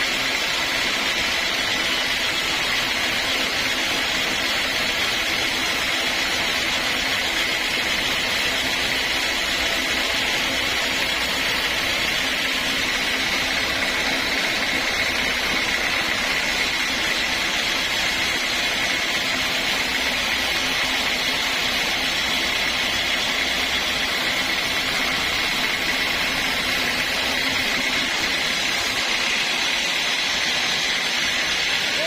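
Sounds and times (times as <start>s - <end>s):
sawmill machinery with high whine: 0.0s - 32.0s.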